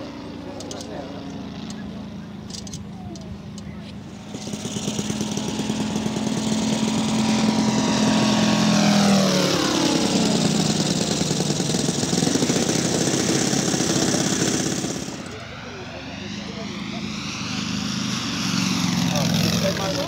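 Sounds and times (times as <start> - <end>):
model plane radial engine droning: 0.0 - 20.0.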